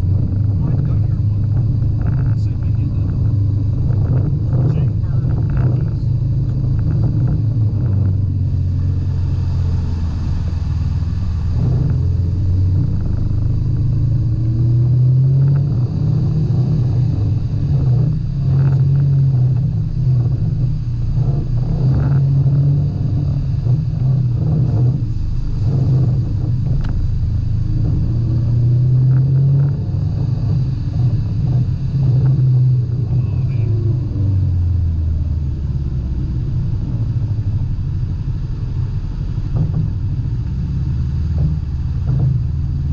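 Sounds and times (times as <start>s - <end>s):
off-road vehicle engine running: 0.0s - 42.9s.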